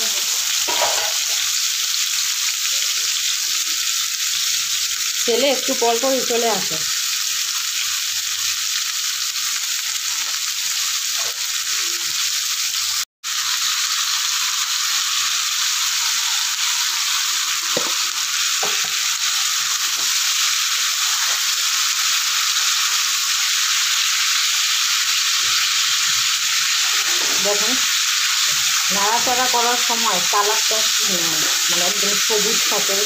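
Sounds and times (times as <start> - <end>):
oil sizzling in a pan: 0.0 - 33.0.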